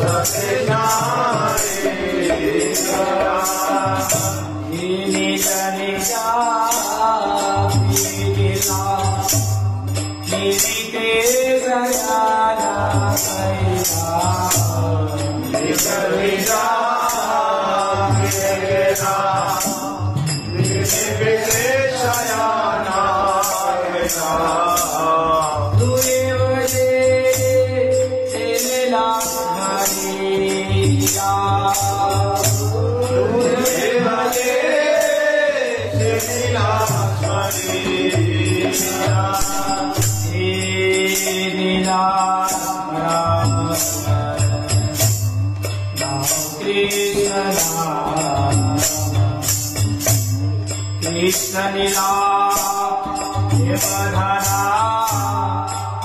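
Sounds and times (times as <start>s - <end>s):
jingling percussion beat: 0.0s - 56.0s
man singing devotional song: 0.0s - 56.0s.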